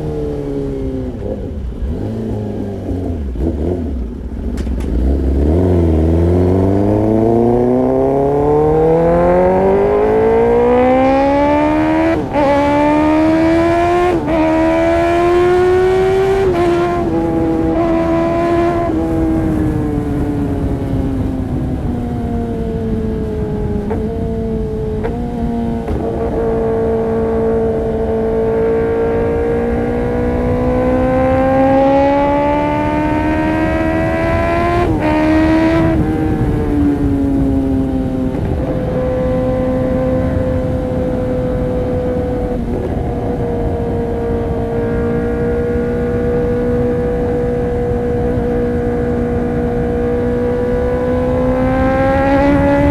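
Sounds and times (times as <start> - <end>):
motorcycle engine revving high: 0.0 - 52.9.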